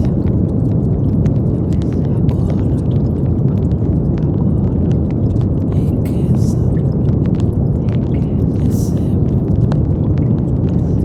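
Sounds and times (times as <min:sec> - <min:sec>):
brown noise: 0:00.0 - 0:11.0.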